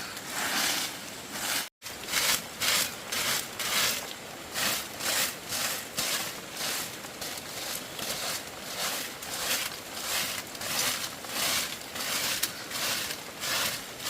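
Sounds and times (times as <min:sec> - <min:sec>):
hand tool scraping bamboo: 0:00.0 - 0:14.0.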